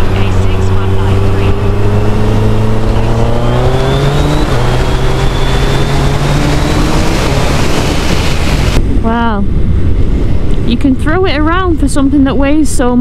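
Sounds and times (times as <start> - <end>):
motorcycle engine accelerating: 0.0 - 12.8
wind rushing: 0.0 - 13.0.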